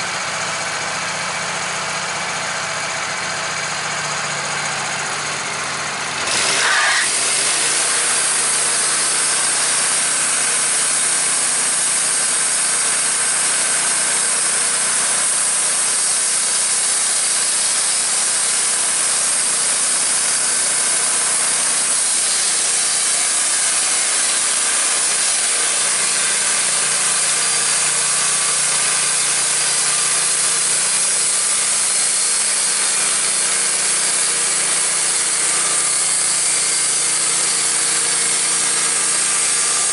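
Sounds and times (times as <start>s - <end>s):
saw blade cutting log: 0.0s - 39.9s
sawmill engine running: 0.0s - 39.9s.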